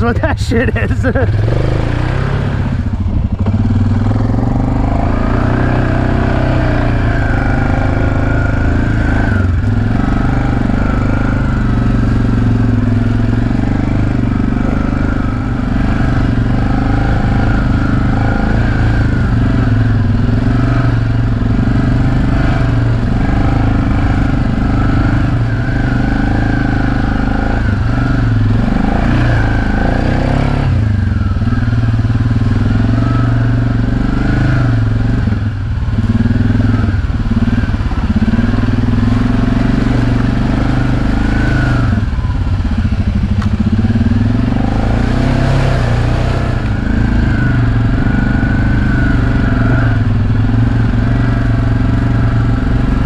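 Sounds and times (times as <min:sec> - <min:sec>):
quad bike engine revving: 0:00.0 - 0:53.0.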